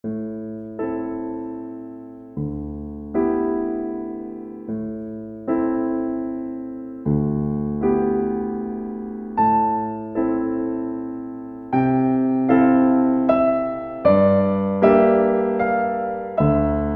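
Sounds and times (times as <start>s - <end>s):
slow electric piano chords: 0.0s - 16.9s.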